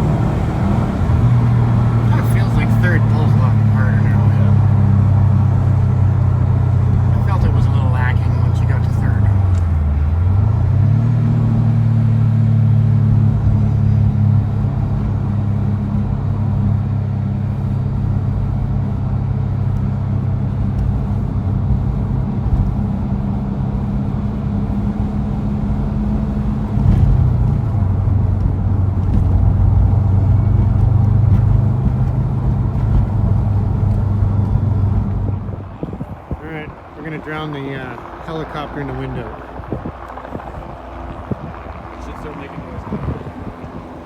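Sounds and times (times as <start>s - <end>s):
car engine revving steadily: 0.0s - 44.0s.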